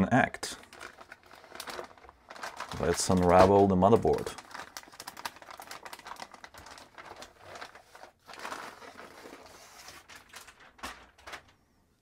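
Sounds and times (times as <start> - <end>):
plastic bag crinkling: 0.5 - 11.7.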